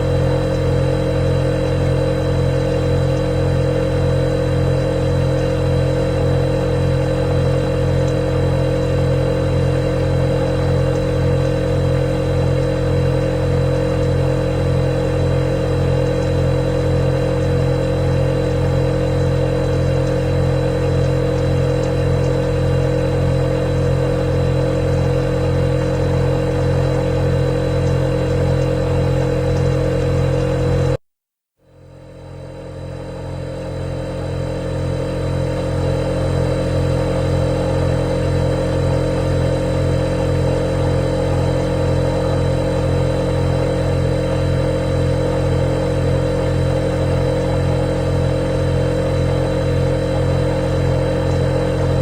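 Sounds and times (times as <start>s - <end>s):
refrigerator humming: 0.0s - 31.0s, 31.8s - 52.0s.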